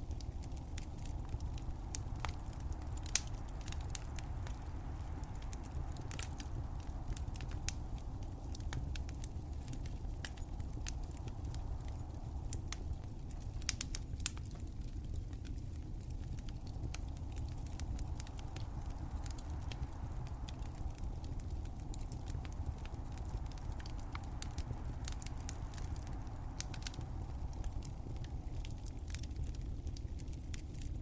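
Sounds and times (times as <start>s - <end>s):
steady low rumble: 0.0s - 31.0s
wood fire crackling and popping: 0.0s - 31.0s.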